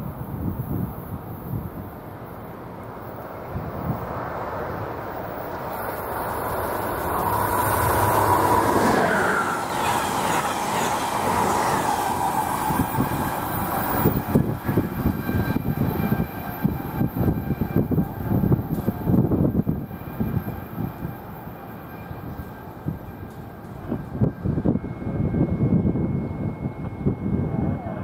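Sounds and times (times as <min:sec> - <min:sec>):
passenger train rushing past: 0:00.0 - 0:28.0.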